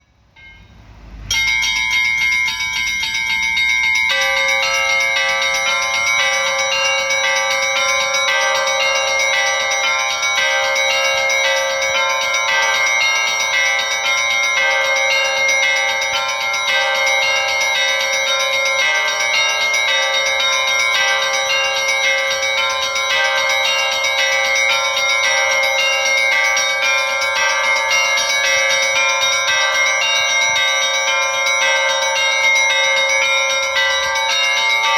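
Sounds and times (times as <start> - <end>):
deeper bells ringing: 0.0 - 34.9
small high bells ringing: 0.0 - 34.9.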